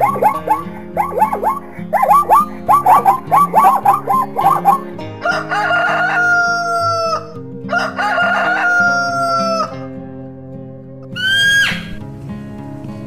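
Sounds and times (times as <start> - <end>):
rooster crowing: 0.0 - 9.9, 11.1 - 12.0
zebra barking calls: 0.0 - 10.0, 11.1 - 12.0.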